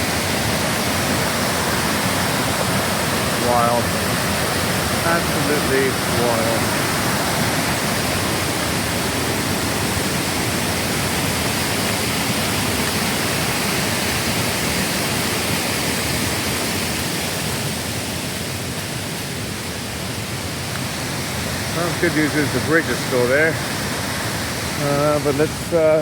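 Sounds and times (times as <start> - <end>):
waterfall and creek rushing: 0.0 - 26.0.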